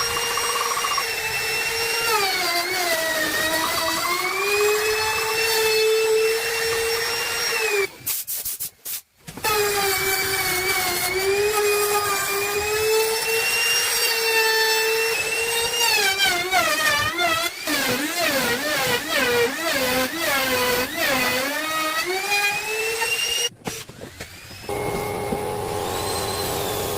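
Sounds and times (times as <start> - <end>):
power tool whining on wood: 0.0 - 8.0, 9.4 - 26.9.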